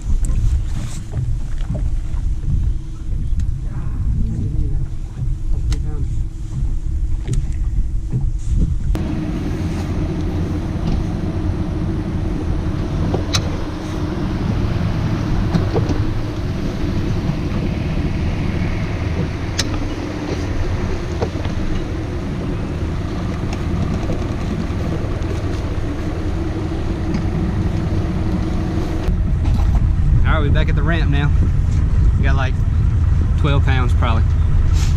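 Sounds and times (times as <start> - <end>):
boat motor running: 0.0 - 34.9
wind noise on microphone: 0.0 - 34.9.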